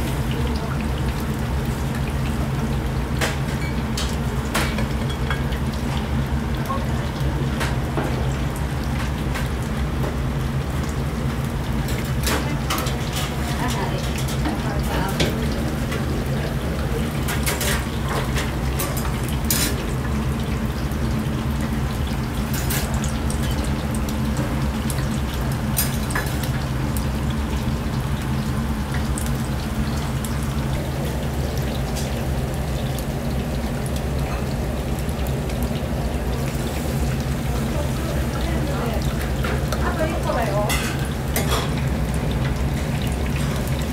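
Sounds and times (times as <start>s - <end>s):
food deep-frying in oil: 0.0s - 43.9s.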